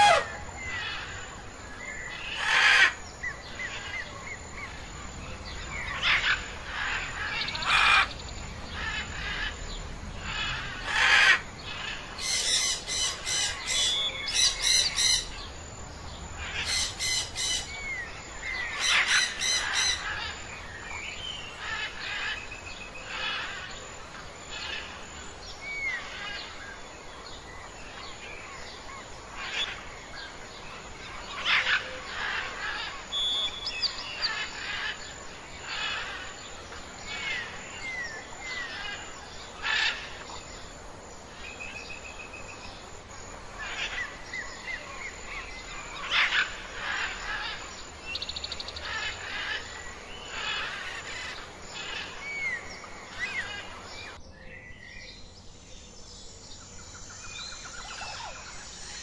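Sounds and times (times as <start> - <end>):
birds chirping and squawking: 0.0 - 26.8, 27.9 - 54.2, 56.6 - 59.0.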